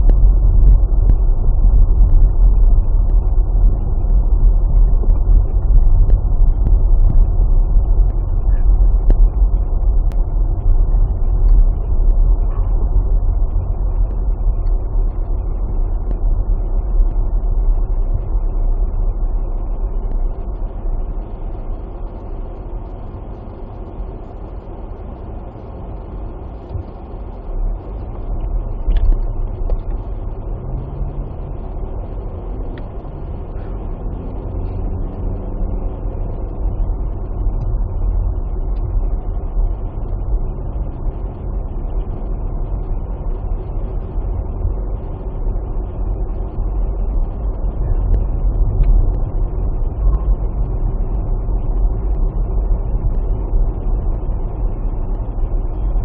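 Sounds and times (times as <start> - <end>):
car cabin rumble: 0.0 - 56.0.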